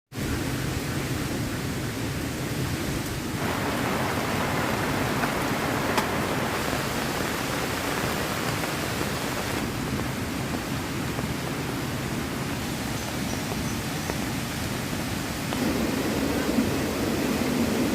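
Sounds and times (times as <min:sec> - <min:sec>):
heavy rain falling: 0:00.2 - 0:17.9.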